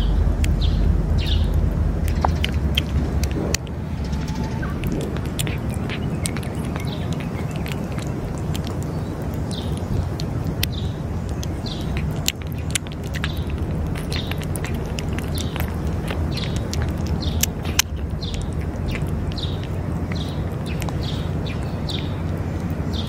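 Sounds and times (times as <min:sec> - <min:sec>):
birds chirping: 0:00.0 - 0:23.0
cat chewing wet food: 0:00.0 - 0:23.0.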